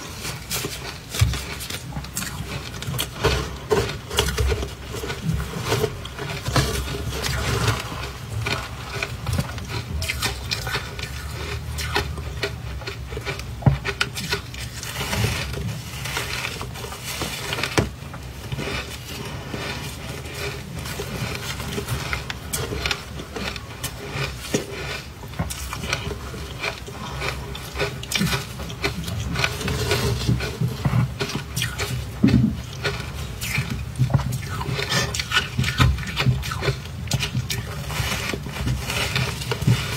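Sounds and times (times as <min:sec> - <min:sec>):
ice crunching and crumbling: 0:00.0 - 0:39.9.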